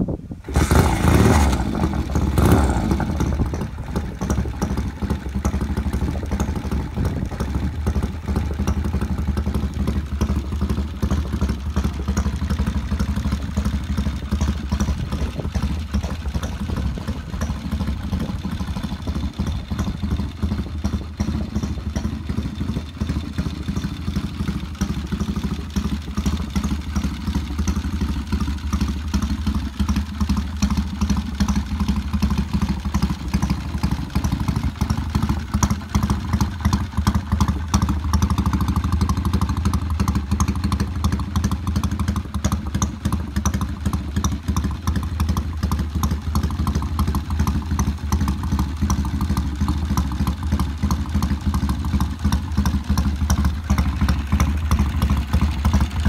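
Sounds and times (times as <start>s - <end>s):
motorcycle engine starting and idling: 0.0s - 56.0s.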